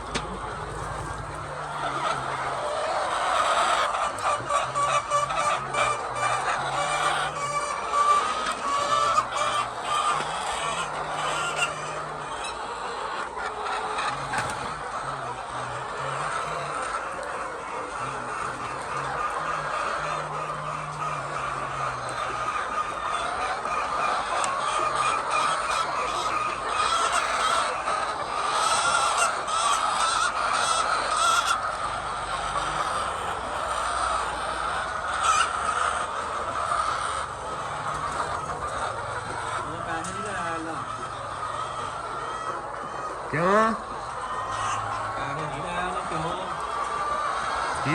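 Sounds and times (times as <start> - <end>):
hens clucking: 0.0 - 47.9.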